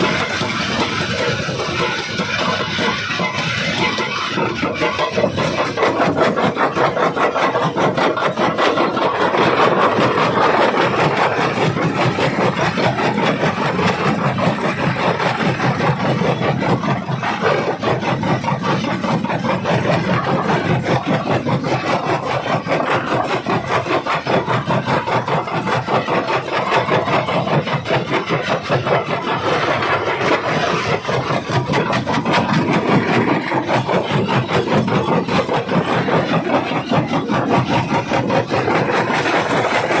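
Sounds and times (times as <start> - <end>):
jaw crusher crushing rock: 0.0 - 40.0.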